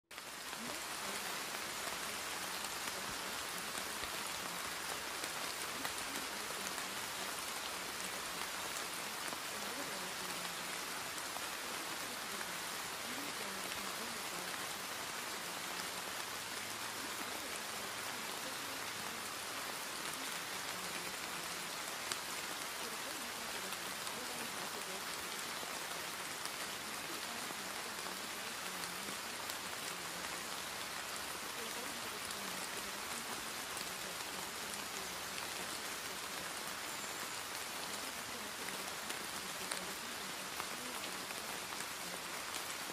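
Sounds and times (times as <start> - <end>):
steady rain hiss: 0.1 - 42.9.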